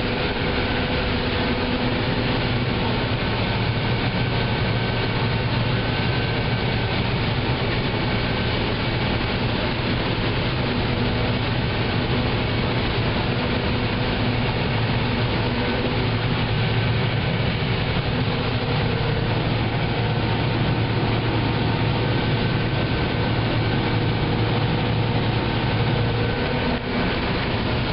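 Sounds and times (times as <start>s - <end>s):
combine harvester engine drone: 0.0s - 27.9s
faint machinery whines: 0.0s - 27.9s.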